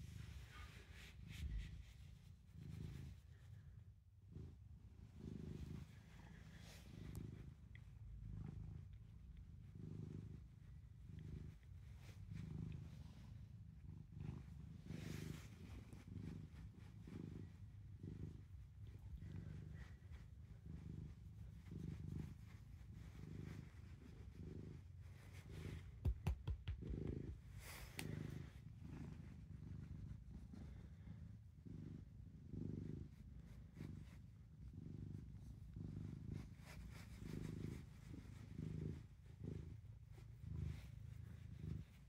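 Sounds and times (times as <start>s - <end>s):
cat purring: 0.0s - 42.0s.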